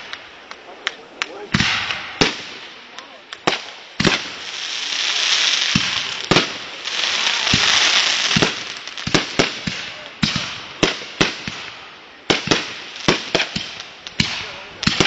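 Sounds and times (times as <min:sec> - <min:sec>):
fireworks bangs: 0:00.0 - 0:15.0
fireworks hissing rush: 0:00.0 - 0:15.0.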